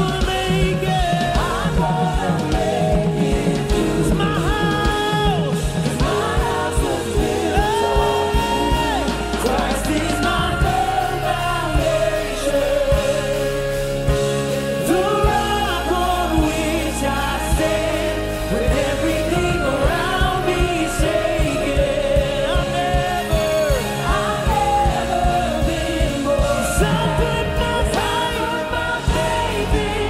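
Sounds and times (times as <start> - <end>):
bass guitar: 0.0 - 30.0
drum beat: 0.0 - 30.0
people singing: 0.0 - 30.0.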